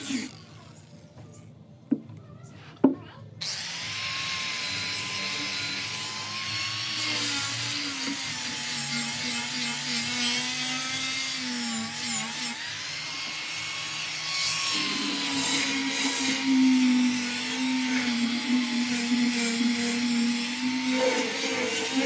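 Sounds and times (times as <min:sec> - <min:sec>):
power tool motor running: 0:03.4 - 0:22.0.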